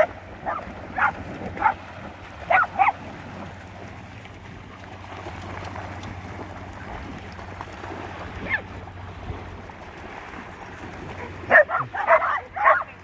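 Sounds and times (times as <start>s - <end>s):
dogs splashing in water: 0.0s - 13.0s
small waves lapping: 0.0s - 13.0s.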